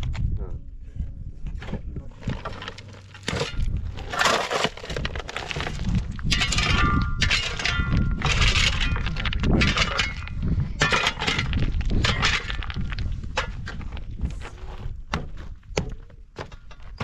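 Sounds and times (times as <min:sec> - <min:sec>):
hard objects clattering: 0:01.6 - 0:17.0.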